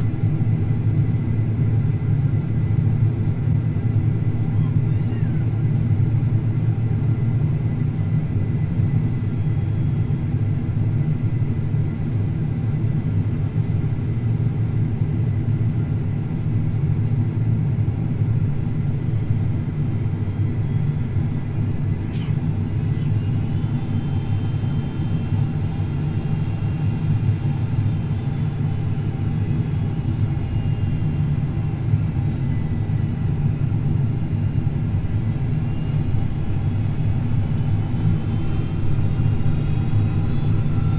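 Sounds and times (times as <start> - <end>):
aircraft engines rumbling: 0.0 - 40.9.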